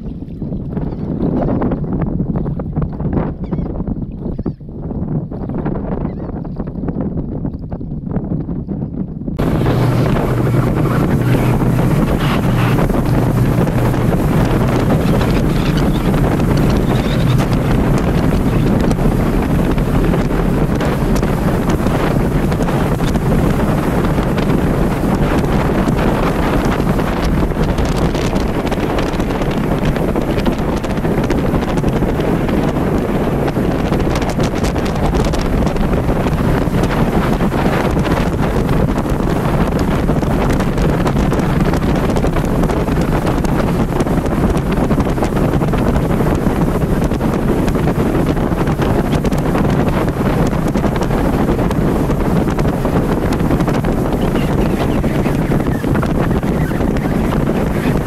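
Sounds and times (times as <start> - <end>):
motorboat running: 0.0 - 58.0
water beneath boat: 0.0 - 58.0
wind rushing over microphone: 0.0 - 58.0.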